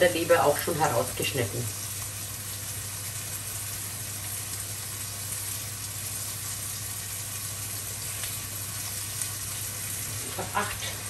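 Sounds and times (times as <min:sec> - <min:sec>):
liver sizzling in hot oil: 0:00.0 - 0:11.0.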